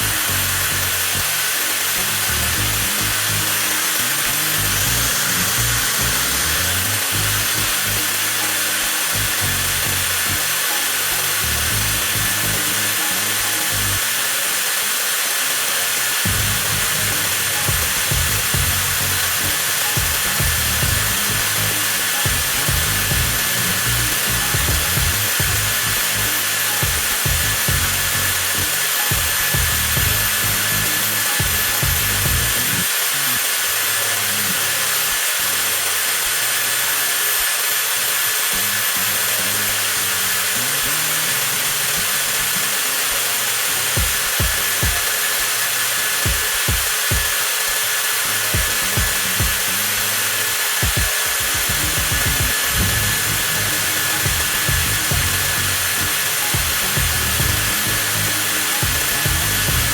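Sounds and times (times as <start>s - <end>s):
angle grinder motor whining: 0.0s - 59.9s.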